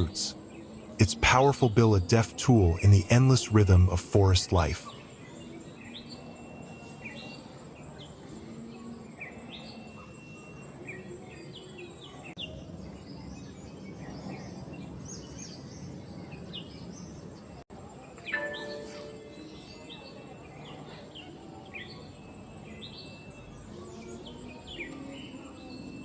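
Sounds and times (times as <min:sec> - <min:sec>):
birds chirping and whistling: 0:00.0 - 0:17.6, 0:18.2 - 0:26.0
low background noise: 0:00.0 - 0:26.0.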